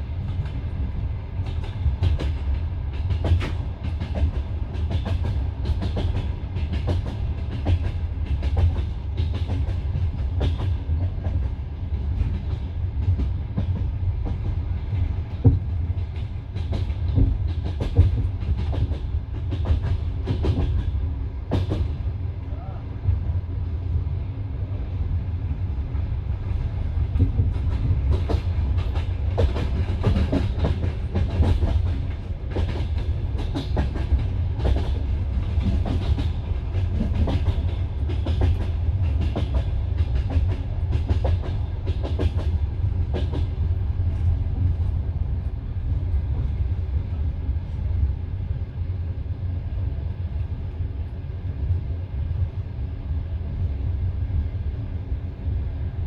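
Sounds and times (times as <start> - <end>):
train carriage rumbling: 0.0 - 56.0.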